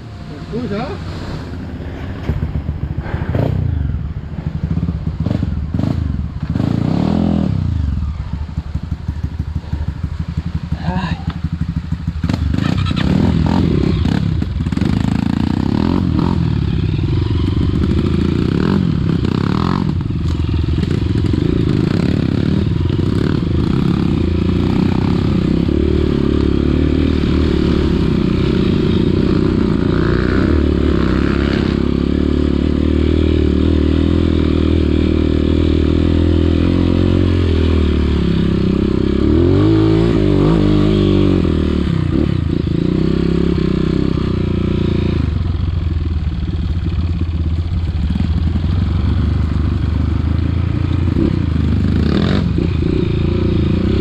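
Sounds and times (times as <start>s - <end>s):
dirt bike engine revving: 0.0s - 8.0s, 9.0s - 45.8s, 48.0s - 54.0s.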